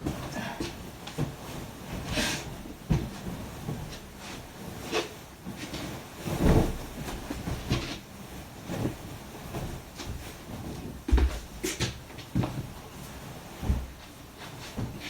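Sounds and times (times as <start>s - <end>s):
rustling: 0.0s - 15.0s
soft bumps: 0.0s - 15.0s.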